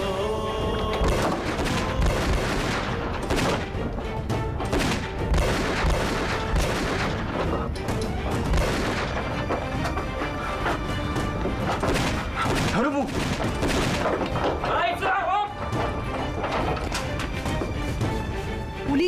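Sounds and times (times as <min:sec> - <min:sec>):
dramatic background music: 0:00.0 - 0:19.0.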